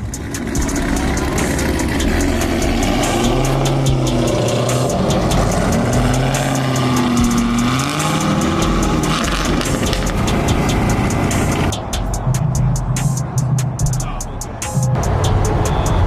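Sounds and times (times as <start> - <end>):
car engine revving: 0.0 - 16.0
regular ticking clicks: 0.0 - 16.0.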